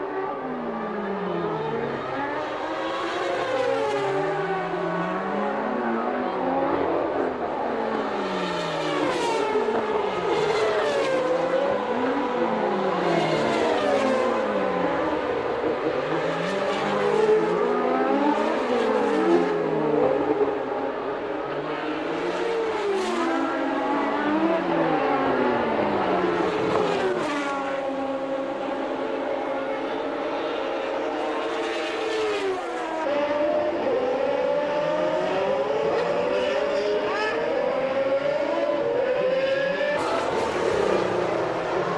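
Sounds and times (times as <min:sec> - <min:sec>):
racing car engines at high revs: 0:00.1 - 0:41.9.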